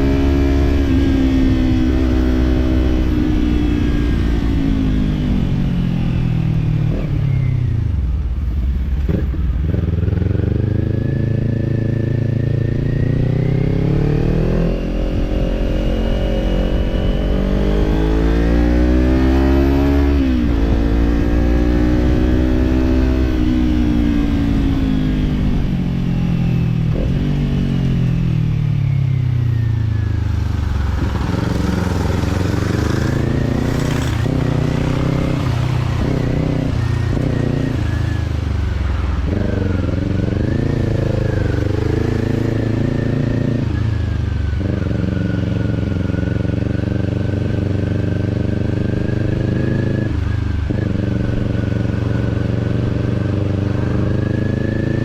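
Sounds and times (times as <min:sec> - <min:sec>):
motorcycle engine revving: 0:00.0 - 0:08.1, 0:09.0 - 0:55.0.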